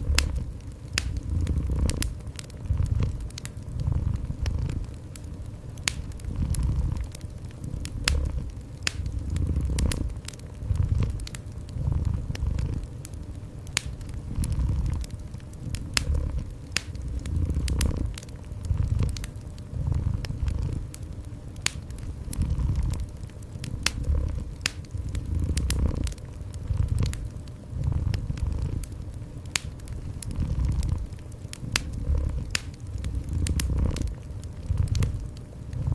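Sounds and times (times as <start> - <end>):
cat purring: 0.0 - 5.2, 5.8 - 35.9
fireplace fire crackling: 0.0 - 35.9.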